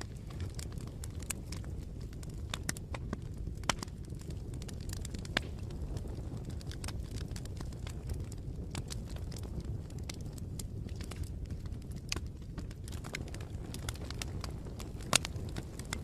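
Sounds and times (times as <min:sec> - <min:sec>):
bonfire crackling: 0:00.0 - 0:16.0
low rumble of flames: 0:00.0 - 0:16.0.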